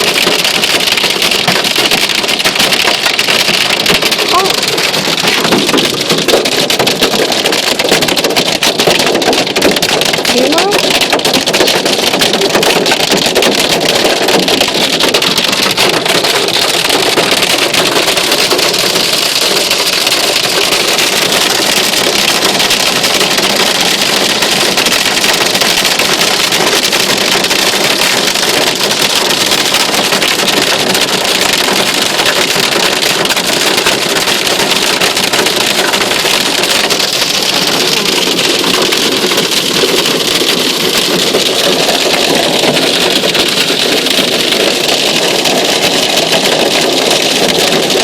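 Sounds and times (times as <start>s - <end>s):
hail and rain pattering: 0.0s - 48.0s.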